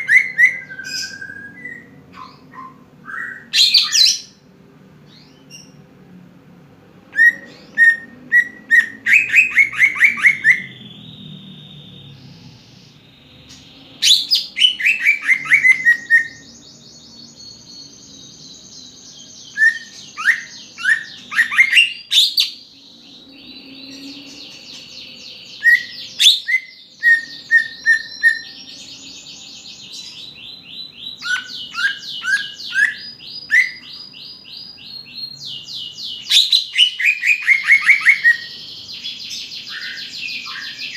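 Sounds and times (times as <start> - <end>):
bird singing chirps and trills: 0.0 - 6.0, 7.0 - 40.9.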